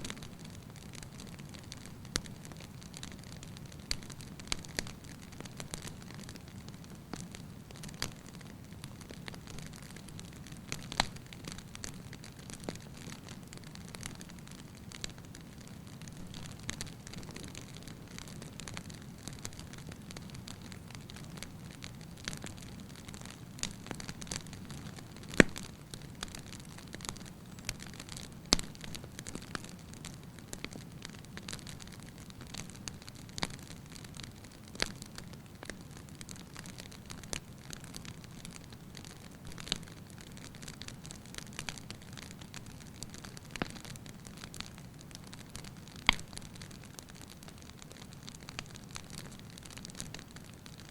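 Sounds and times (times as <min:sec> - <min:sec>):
firewood crackling and popping: 0:00.0 - 0:50.9
low rumble of flames: 0:00.0 - 0:50.9.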